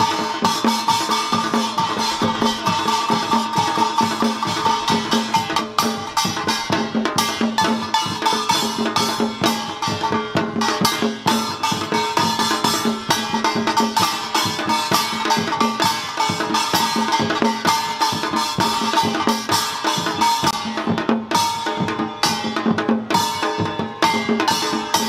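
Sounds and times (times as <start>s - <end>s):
hand drums playing: 0.0s - 25.0s
small brass gongs clanging: 0.0s - 25.0s.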